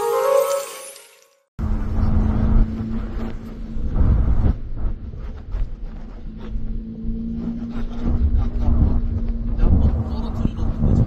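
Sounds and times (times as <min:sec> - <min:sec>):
car road rumble inside cabin: 0:01.6 - 0:11.0.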